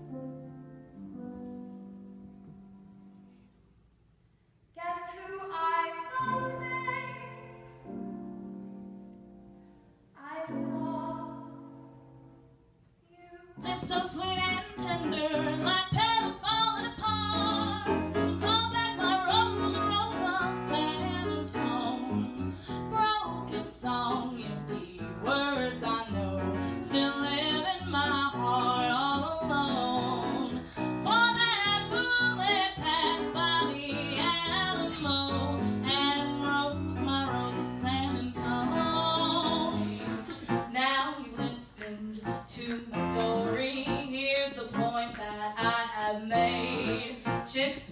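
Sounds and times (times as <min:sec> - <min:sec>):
woman singing with accompaniment: 0:04.8 - 0:07.6, 0:10.2 - 0:11.8, 0:13.1 - 0:47.9.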